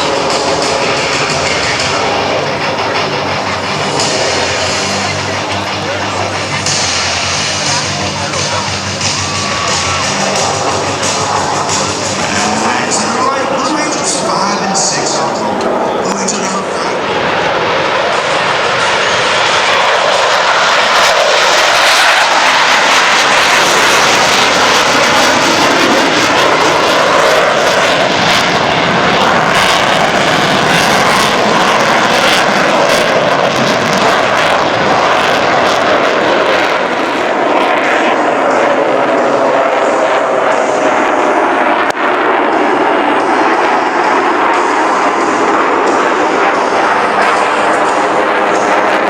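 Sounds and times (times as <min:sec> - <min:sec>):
jets flying by: 0:00.0 - 0:49.0.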